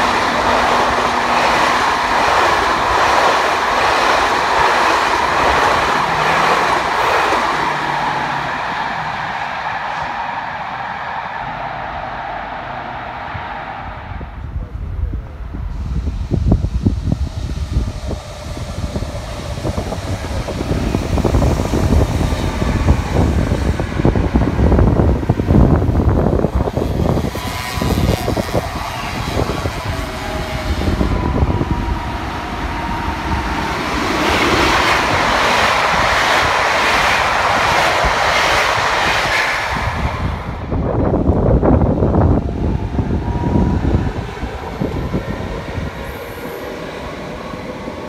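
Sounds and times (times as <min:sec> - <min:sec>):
wind buffeting microphone: 0:00.0 - 0:09.6, 0:13.1 - 0:48.0
train wheels rumbling on rail: 0:00.0 - 0:48.0.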